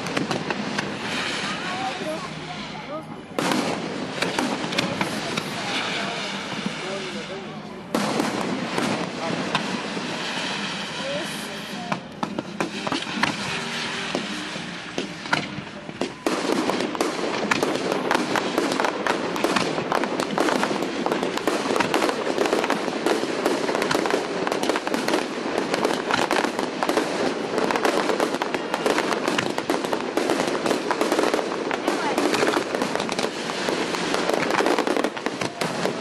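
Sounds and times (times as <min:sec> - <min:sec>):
fireworks bursting and crackling: 0:00.0 - 0:36.0.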